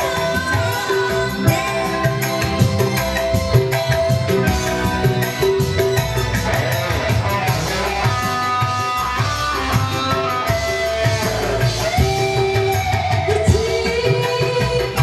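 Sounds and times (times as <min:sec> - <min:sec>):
electric guitar: 0:00.0 - 0:15.0
keyboard: 0:00.0 - 0:15.0
steady drum beat: 0:00.0 - 0:15.0.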